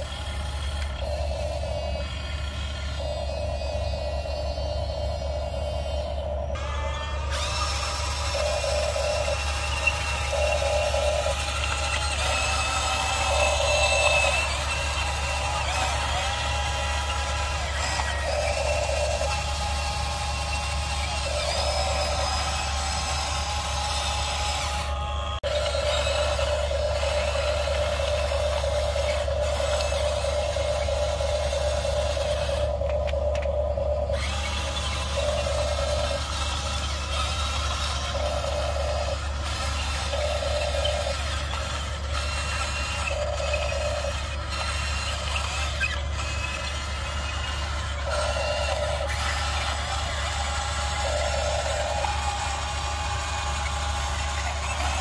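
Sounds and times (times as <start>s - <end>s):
constant low hum: 0.0s - 55.0s
small electric motors whining: 0.0s - 55.0s.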